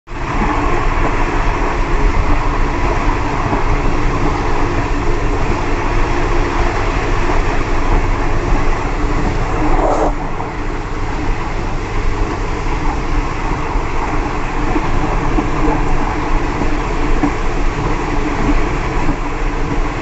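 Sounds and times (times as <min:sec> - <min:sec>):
train wheels rolling on rails: 0:00.1 - 0:20.0.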